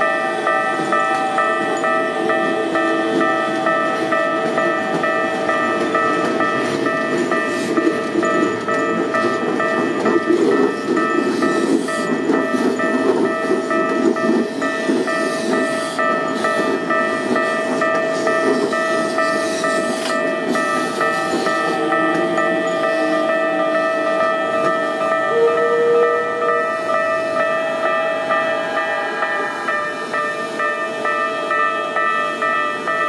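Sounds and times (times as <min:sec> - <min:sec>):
level crossing bell ringing: 0:00.0 - 0:33.0
train wheels on rails: 0:00.0 - 0:33.0.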